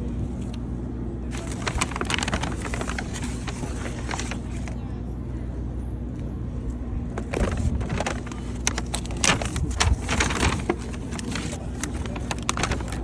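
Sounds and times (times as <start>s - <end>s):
crackling handling noises: 0.0s - 5.0s, 6.1s - 13.0s
steady low hum: 0.0s - 13.0s.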